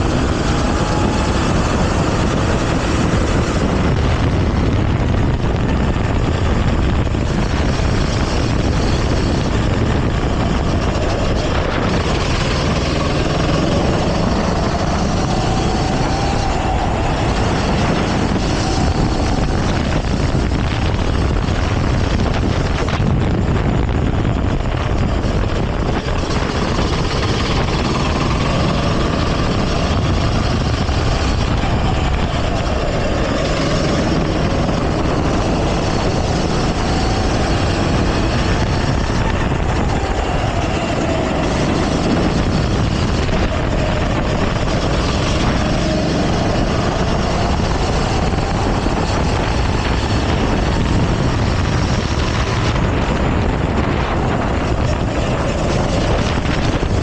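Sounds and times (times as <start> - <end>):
go-kart engine revving: 0.0 - 57.0
steady rush of noise: 0.0 - 57.0.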